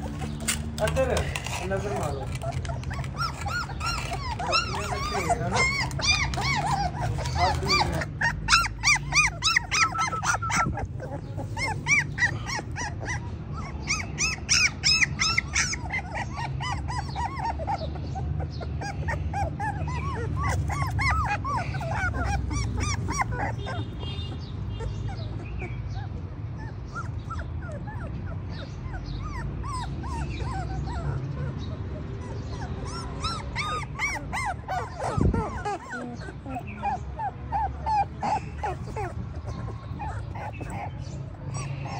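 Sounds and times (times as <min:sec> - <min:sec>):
puppies whimpering and yipping: 0:00.0 - 0:41.9.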